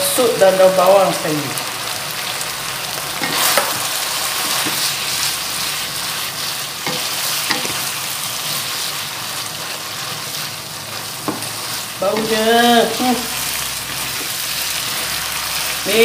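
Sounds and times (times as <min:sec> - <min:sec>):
noodles sizzling in a wok: 0:00.0 - 0:16.0.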